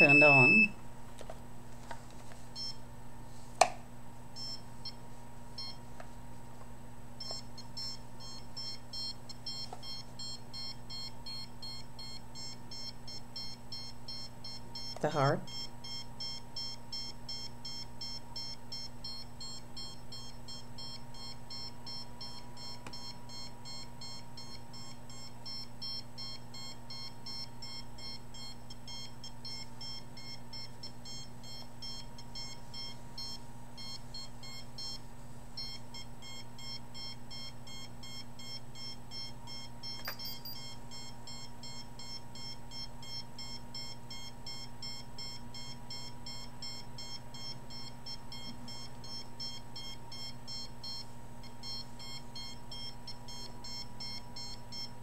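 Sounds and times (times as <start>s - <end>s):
rapid alarm beeps: 0.0s - 0.8s, 2.6s - 2.8s, 4.4s - 5.0s, 5.6s - 5.8s, 7.2s - 35.0s, 35.6s - 55.0s
low electrical hum: 0.0s - 55.0s.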